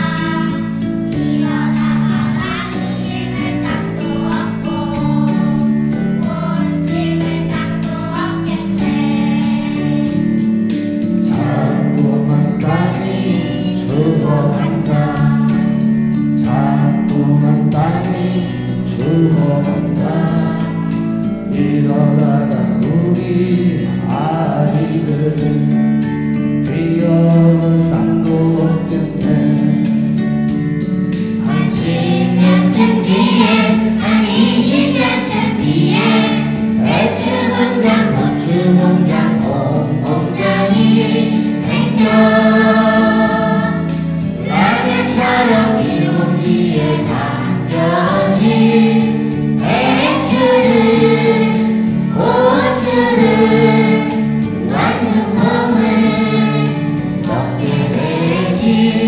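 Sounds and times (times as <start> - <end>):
children's choir singing: 0.0 - 25.6, 26.7 - 30.0, 31.3 - 59.0
instrumental accompaniment with beat: 0.0 - 59.0.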